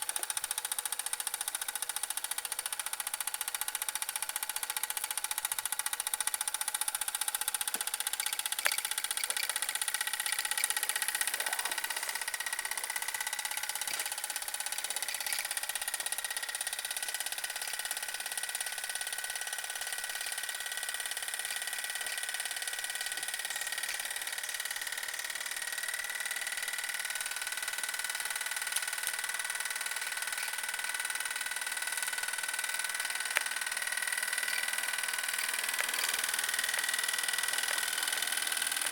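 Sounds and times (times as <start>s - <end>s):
model steam engine chattering: 1.9s - 38.9s.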